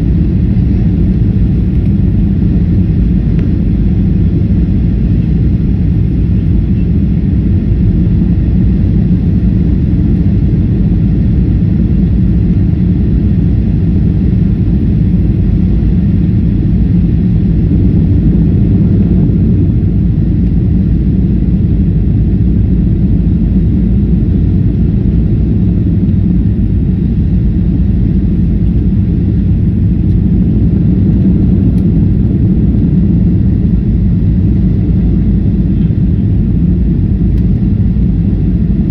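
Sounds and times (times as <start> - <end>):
jet airliner landing rumble: 0.0 - 38.9.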